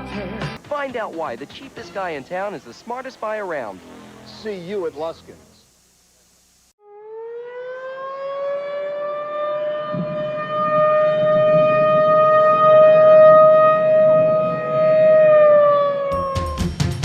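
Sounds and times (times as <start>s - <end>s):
mechanical warning siren wailing: 2.0s - 5.6s, 6.8s - 16.8s.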